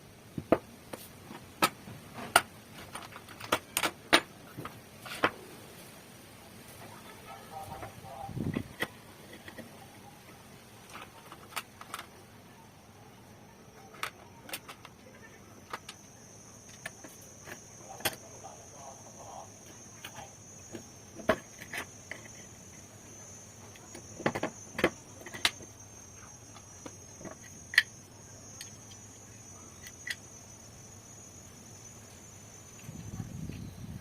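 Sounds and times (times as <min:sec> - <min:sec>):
insect-like chirring: 0:06.6 - 0:34.0.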